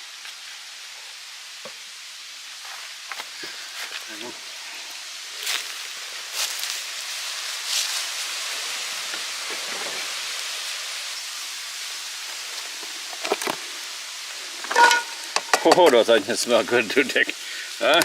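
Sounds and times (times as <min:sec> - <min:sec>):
onions sizzling in a pan: 0:00.0 - 0:18.0.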